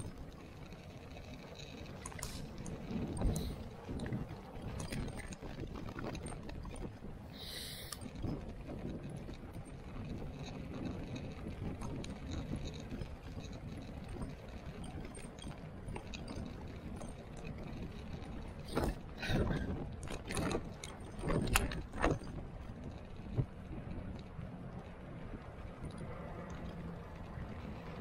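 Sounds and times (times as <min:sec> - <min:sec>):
bike rattling: 0:00.0 - 0:28.0
bike tyres rolling on wet tarmac: 0:00.0 - 0:28.0
wind noise: 0:00.0 - 0:28.0.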